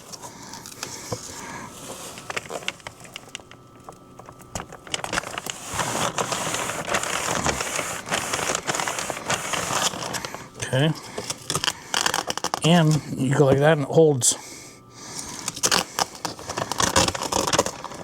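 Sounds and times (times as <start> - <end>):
delivery bag rustling and crinkling: 0.0 - 13.6, 15.1 - 18.0.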